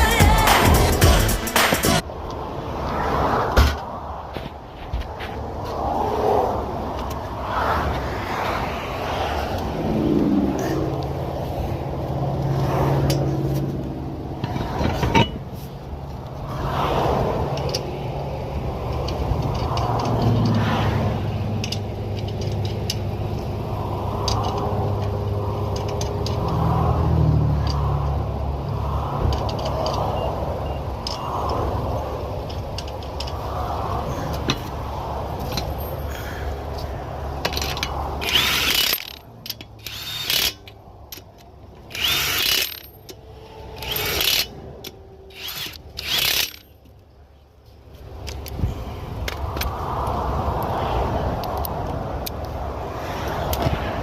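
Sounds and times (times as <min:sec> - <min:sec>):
highway traffic rumble: 0:00.0 - 0:54.0.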